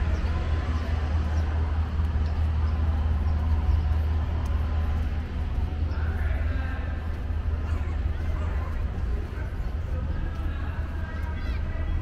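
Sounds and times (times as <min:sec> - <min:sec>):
city background noise: 0:00.0 - 0:12.0
low city rumble: 0:00.0 - 0:12.0.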